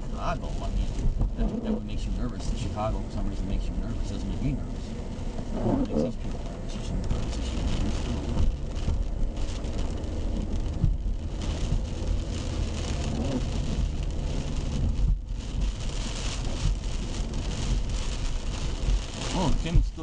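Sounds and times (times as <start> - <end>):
low road rumble: 0.0 - 20.0
tyres hissing on wet road: 0.0 - 20.0.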